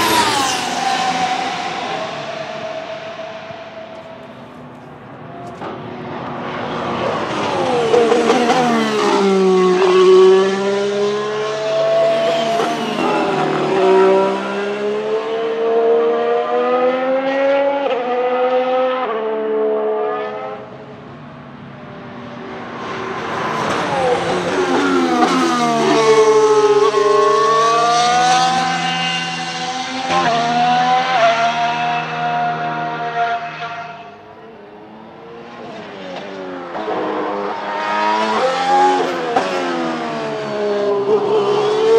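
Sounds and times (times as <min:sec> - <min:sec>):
racing car engine revving: 0:00.0 - 0:04.5, 0:06.1 - 0:20.8, 0:22.0 - 0:41.9.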